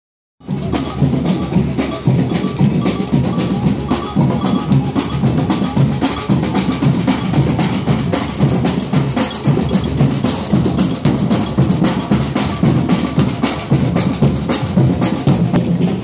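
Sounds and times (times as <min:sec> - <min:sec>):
marching drum band playing: 0:00.4 - 0:16.0.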